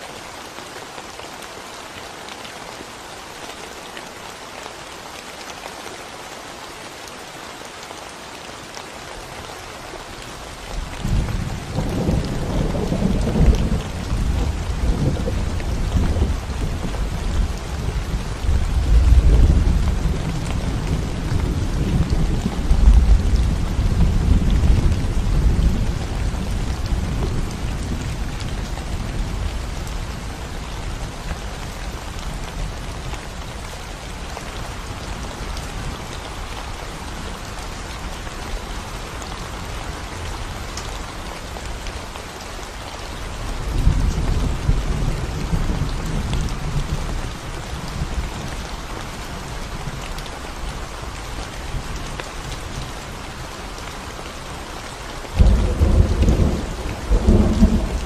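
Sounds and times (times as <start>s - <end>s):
rain on concrete and plants: 0.0s - 58.0s.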